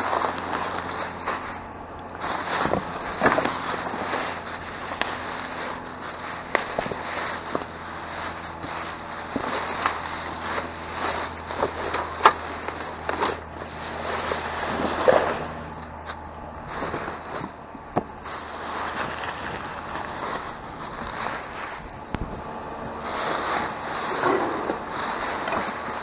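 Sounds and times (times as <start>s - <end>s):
plastic bags rustling: 0.0s - 26.0s
steady low hum: 0.0s - 26.0s.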